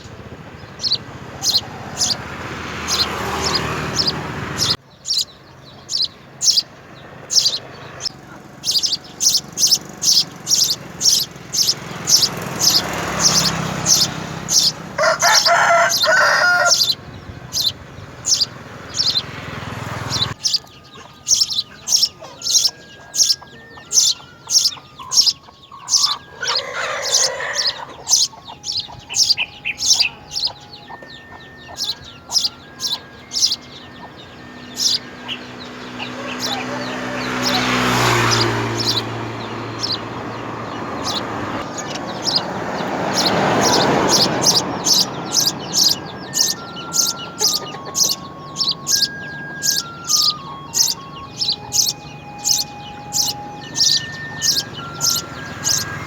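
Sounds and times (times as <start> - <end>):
bird chirping: 0.0 - 56.0
lower multi-tone bird call: 0.0 - 56.0.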